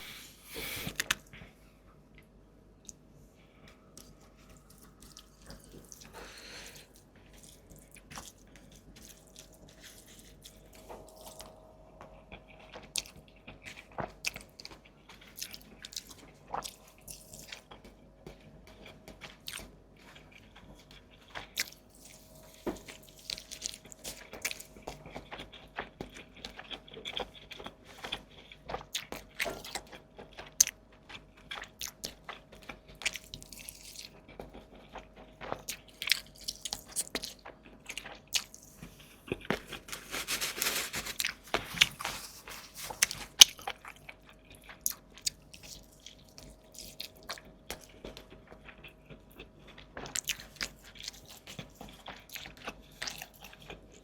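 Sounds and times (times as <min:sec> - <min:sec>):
biting and wet chewing: 0:00.0 - 0:01.5, 0:02.2 - 0:54.0
faint steady hum: 0:00.0 - 0:54.0.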